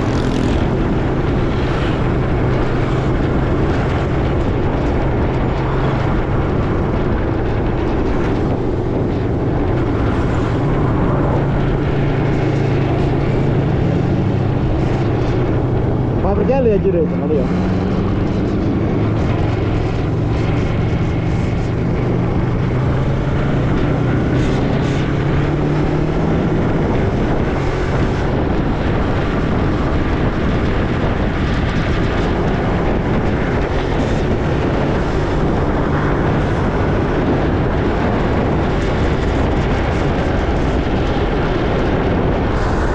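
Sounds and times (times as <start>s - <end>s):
vehicle engine running: 0.0s - 42.9s
wind and road rumble: 0.0s - 42.9s.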